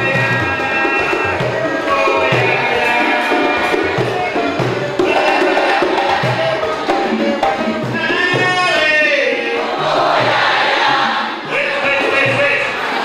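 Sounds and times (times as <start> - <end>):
drumming with steady beat: 0.0 - 13.0
voices singing: 0.0 - 13.0.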